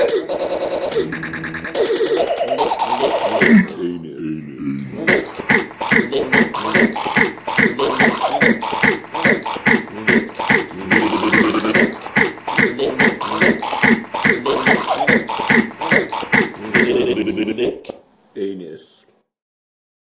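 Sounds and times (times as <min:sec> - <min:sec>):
person repeating clicky syllable: 0:00.0 - 0:03.8, 0:04.9 - 0:17.4.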